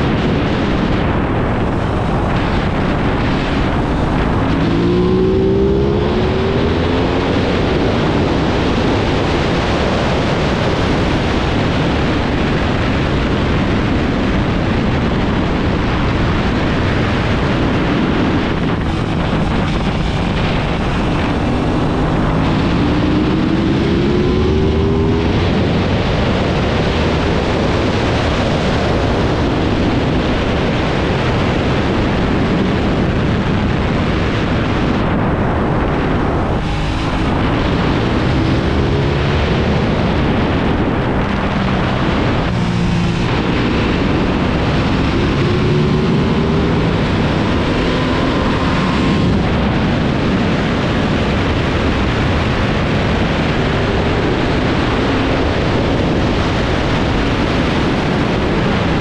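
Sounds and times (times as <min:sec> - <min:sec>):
motorcycle engine accelerating: 0:00.0 - 0:59.0
wind rush over microphone: 0:00.0 - 0:59.0.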